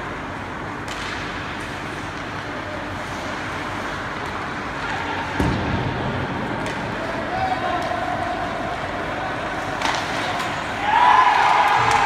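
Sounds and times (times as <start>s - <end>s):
arena noise: 0.1s - 12.0s.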